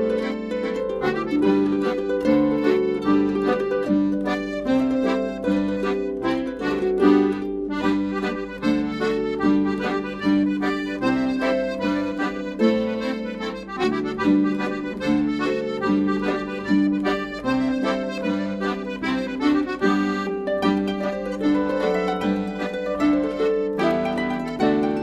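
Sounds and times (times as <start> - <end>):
accordion playing a tune: 0.0 - 25.0.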